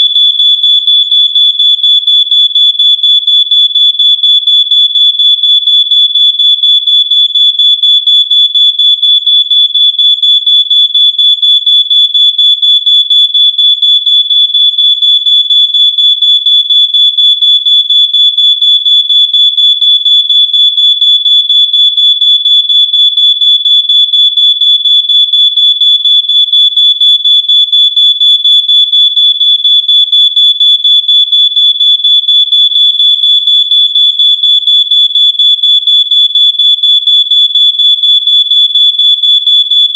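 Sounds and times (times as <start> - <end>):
smoke alarm beeping: 0.0 - 15.6, 20.1 - 39.9.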